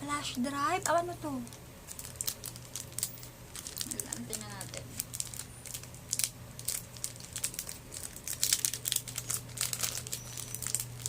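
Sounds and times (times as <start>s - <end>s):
faint steady hum: 0.0s - 11.0s
packaging crinkling: 0.8s - 11.0s.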